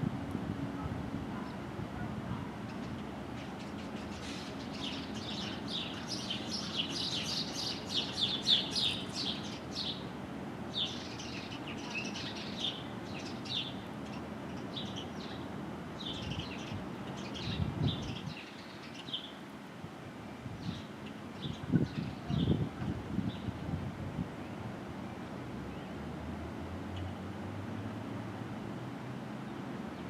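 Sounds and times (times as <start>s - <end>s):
songbirds chirping: 1.3s - 23.6s, 24.3s - 27.4s.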